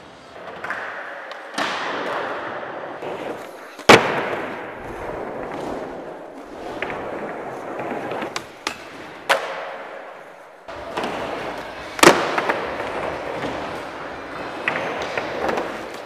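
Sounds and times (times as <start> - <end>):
skateboard wheels rolling: 0.0 - 16.0.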